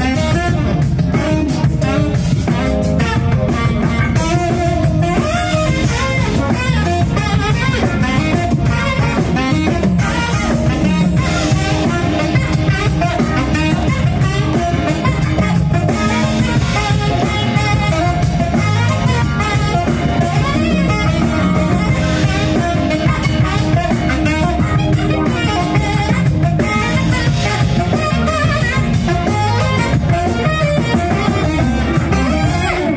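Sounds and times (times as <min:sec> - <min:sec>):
bass guitar: 0:00.0 - 0:32.9
drums: 0:00.0 - 0:32.9
electric guitar: 0:00.0 - 0:32.9
saxophone: 0:00.0 - 0:32.9.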